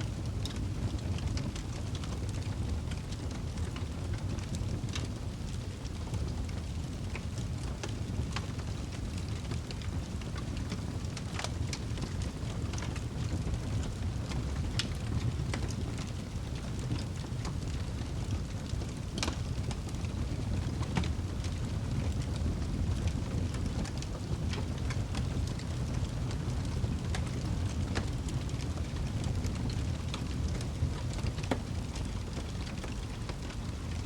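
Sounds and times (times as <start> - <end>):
burning wood crackling and popping: 0.0 - 34.0
low rumble of flames: 0.0 - 34.0.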